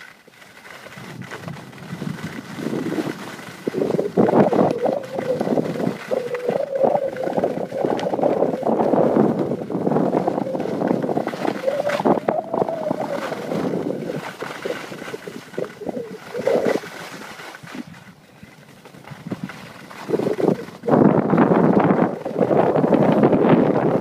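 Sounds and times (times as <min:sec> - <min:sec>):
skis scraping over snow: 0:00.0 - 0:24.0
wind buffeting microphone: 0:00.9 - 0:24.0.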